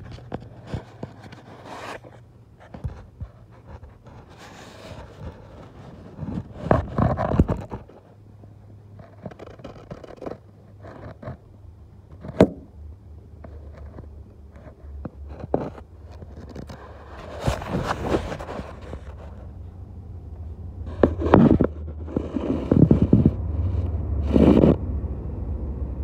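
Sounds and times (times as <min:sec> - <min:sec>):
phone handling rubbing and scraping: 0:00.0 - 0:08.2, 0:08.8 - 0:11.5, 0:12.1 - 0:12.7, 0:13.4 - 0:19.7, 0:20.8 - 0:24.8
steady low hum: 0:00.0 - 0:26.0.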